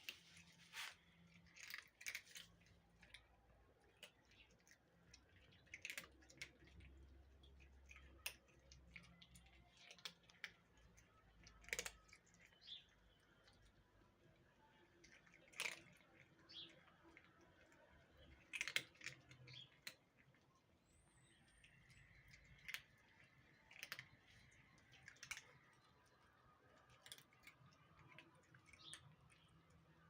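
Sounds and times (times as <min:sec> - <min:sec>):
cats crunching food: 0:00.0 - 0:30.0.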